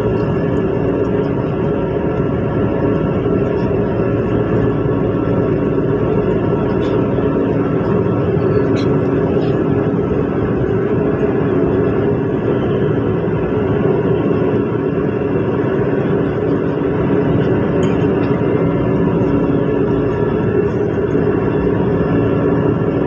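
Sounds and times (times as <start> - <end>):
constant electric hum: 0.0 - 23.0.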